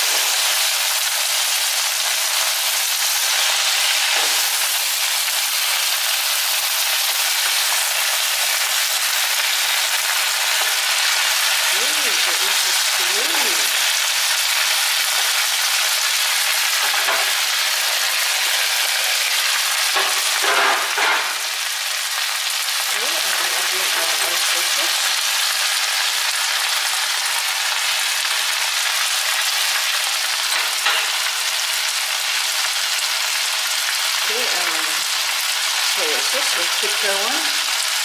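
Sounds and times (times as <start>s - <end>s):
cabbage sizzling in a pan: 0.0s - 38.0s.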